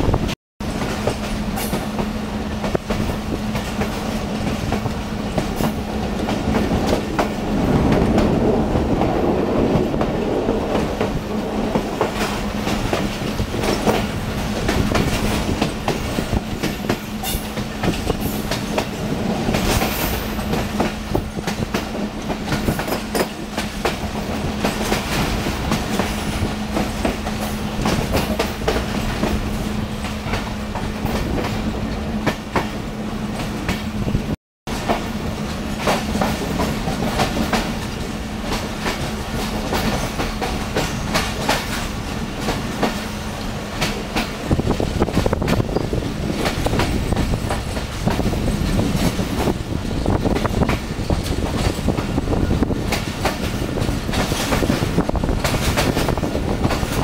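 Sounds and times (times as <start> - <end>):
train wheels rumbling on rails: 0.0 - 57.0
clacks over rail joints: 0.1 - 57.0.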